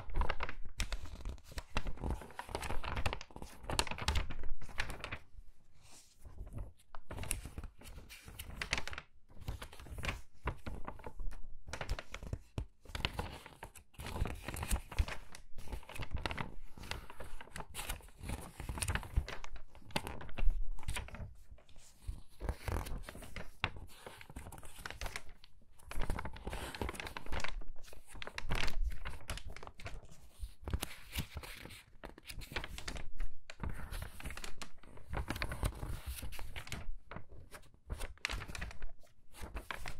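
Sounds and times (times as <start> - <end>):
magazine pages rustling: 0.0 - 39.9.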